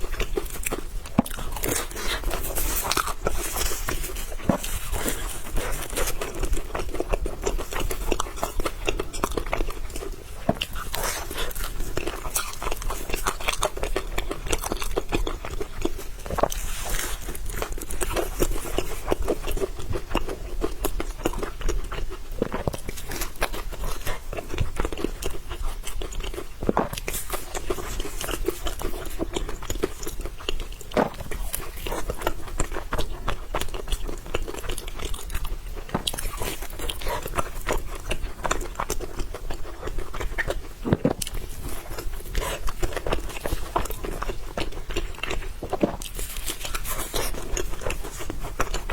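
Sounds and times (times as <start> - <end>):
person chewing food: 0.0 - 48.9.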